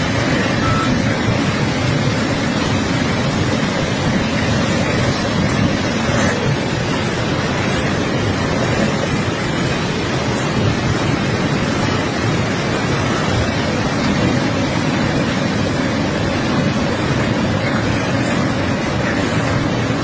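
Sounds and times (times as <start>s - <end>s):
excavator engine running: 0.0s - 20.0s
wind noise on microphone: 0.0s - 20.0s.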